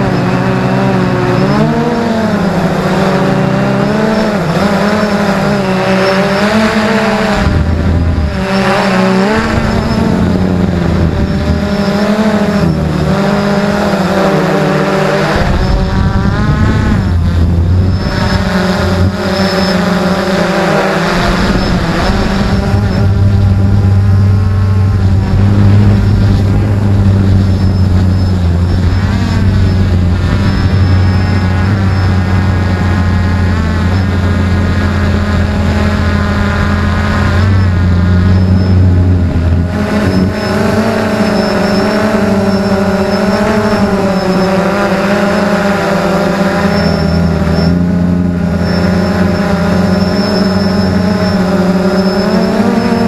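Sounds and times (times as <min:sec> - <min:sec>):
drone motors and propellers: 0:00.0 - 0:53.0.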